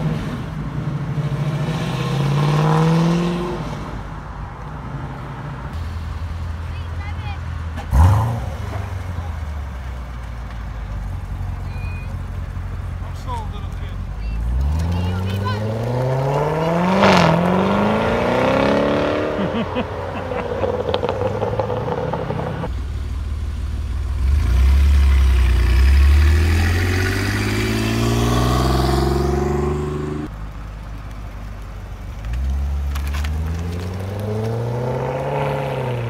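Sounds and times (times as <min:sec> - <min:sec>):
car engines revving away: 0:00.0 - 0:06.8, 0:07.4 - 0:36.0
car passing with deep rumble: 0:00.0 - 0:36.0.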